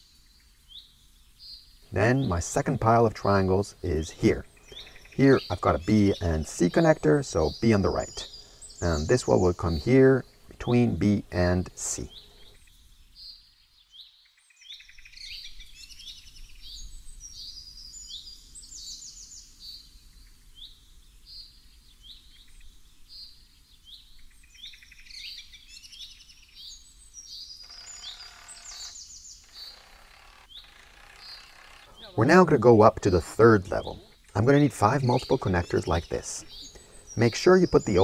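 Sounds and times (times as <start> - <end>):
birds chirping and singing: 0.0 - 38.0
faint outdoor background noise: 0.0 - 38.0.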